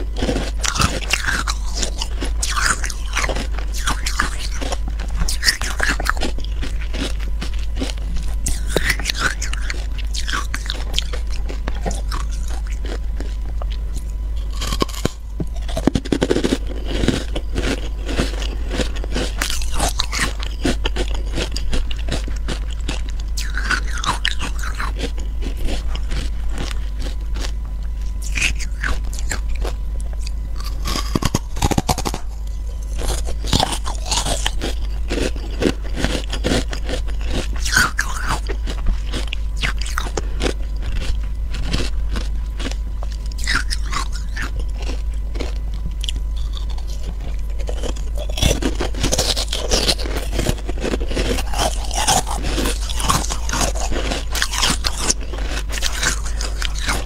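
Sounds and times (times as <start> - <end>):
ice cubes crunching while chewed: 0.0 - 57.0.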